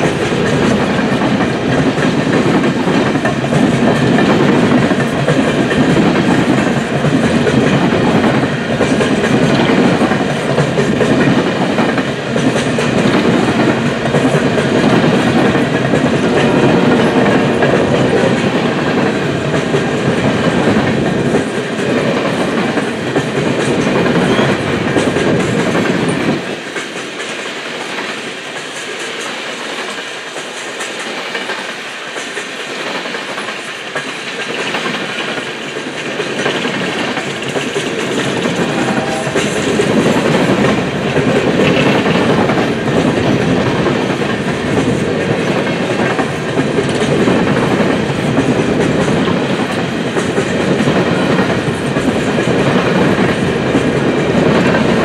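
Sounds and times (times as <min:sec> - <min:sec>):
low train rumble: 0:00.0 - 0:55.0
train wheels clattering over rail joints: 0:00.0 - 0:55.0.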